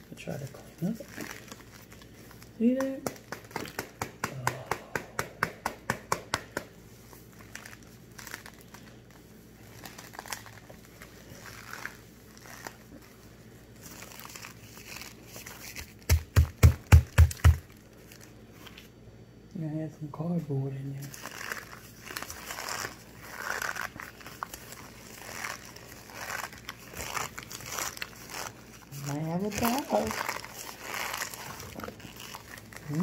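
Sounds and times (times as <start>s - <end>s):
corn starch crunching in package: 0.3s - 4.4s, 7.2s - 18.3s, 21.0s - 33.0s.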